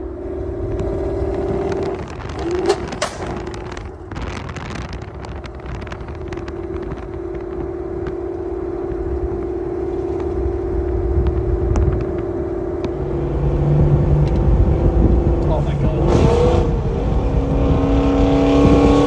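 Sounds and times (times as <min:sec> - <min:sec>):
car engine exhaust drone: 0:00.0 - 0:19.0
exhaust crackles: 0:00.0 - 0:19.0.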